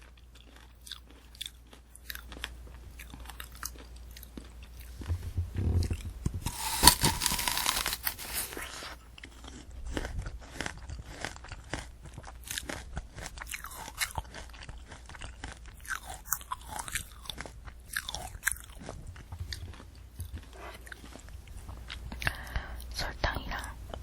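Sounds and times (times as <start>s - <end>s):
crunchy chewing of candy apple: 0.0s - 5.1s, 5.7s - 24.0s.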